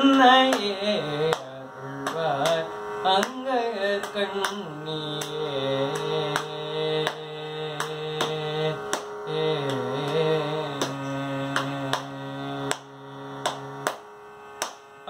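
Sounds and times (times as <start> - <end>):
man singing ornamented line: 0.0 - 13.9.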